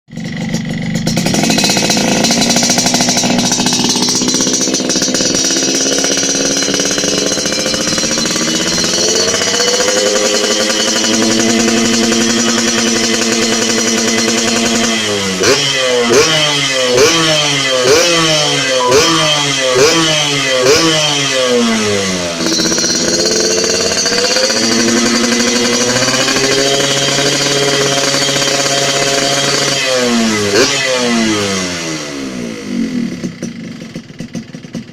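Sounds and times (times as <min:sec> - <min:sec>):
two-stroke motorcycle engine blipping: 0:00.1 - 0:34.9.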